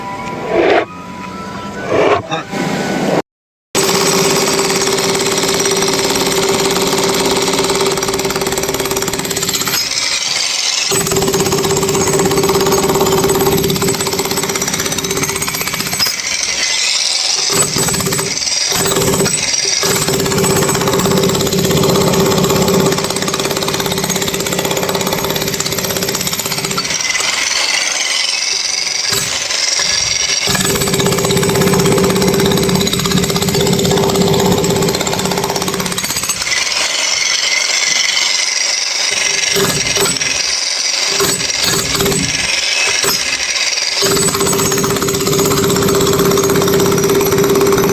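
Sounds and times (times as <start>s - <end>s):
demolition hammer on concrete: 3.8s - 47.9s.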